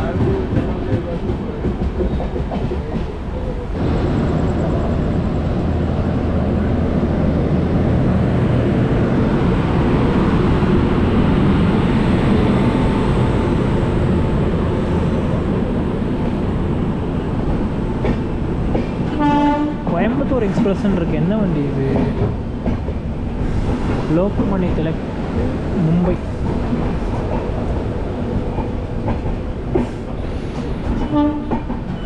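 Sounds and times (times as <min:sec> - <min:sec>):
passenger train rumbling: 0:00.0 - 0:32.0.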